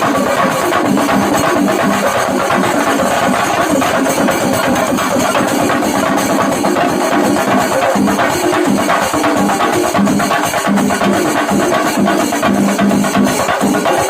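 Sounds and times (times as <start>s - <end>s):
drums beaten with sticks: 0.0s - 14.0s.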